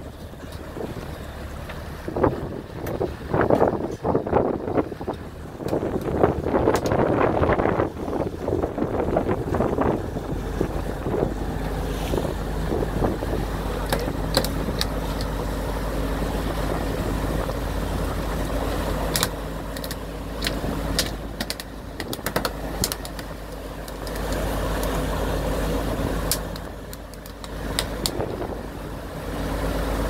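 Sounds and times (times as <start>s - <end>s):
boat engines droning: 0.0s - 30.0s
rush of wake: 0.0s - 30.0s.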